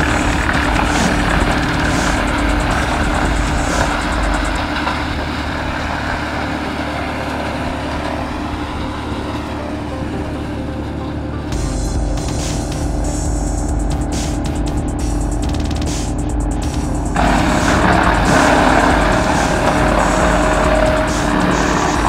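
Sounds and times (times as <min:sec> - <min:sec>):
wood chipper chipping branches: 0:00.0 - 0:13.1, 0:14.1 - 0:22.0
deep hum: 0:00.0 - 0:22.0
tractor engine: 0:00.0 - 0:22.0.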